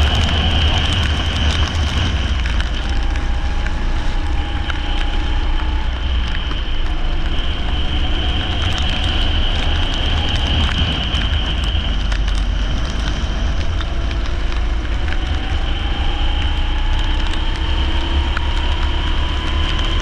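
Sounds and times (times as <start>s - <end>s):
kart engine running hard: 0.0s - 20.0s.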